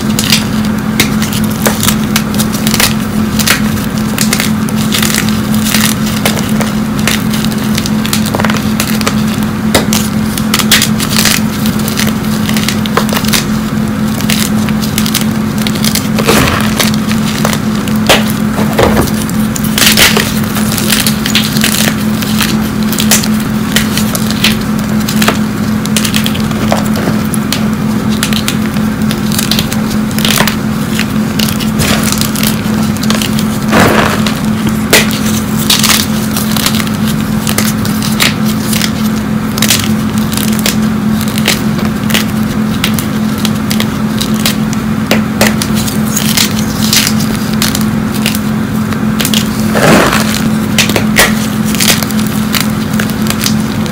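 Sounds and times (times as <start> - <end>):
chalk crushed by hand: 0.0 - 53.9
low hum: 0.0 - 53.9.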